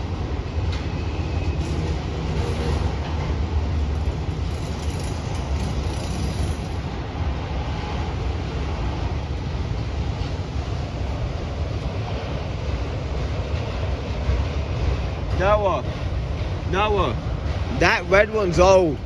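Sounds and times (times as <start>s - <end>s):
freight cars rolling on rails: 0.0s - 19.0s.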